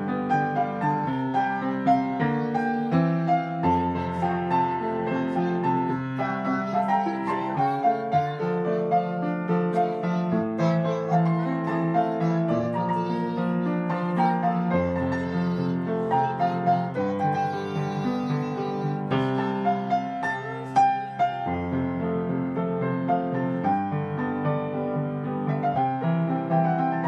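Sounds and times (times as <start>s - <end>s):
upright piano melody: 0.0s - 27.0s.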